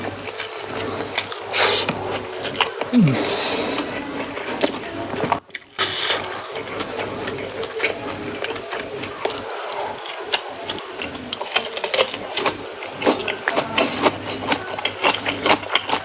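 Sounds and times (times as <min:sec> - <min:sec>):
chewing crunchy raw vegetables: 0:00.0 - 0:16.0.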